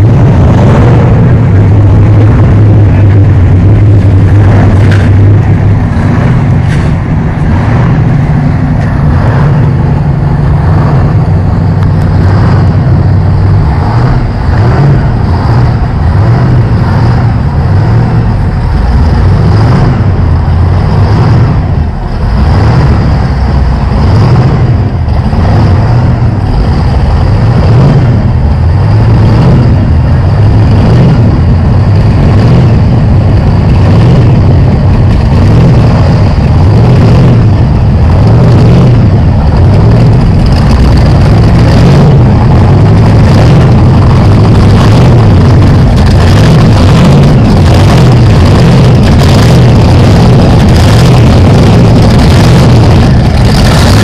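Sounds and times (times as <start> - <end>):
boat engines idling: 0.0 - 54.0.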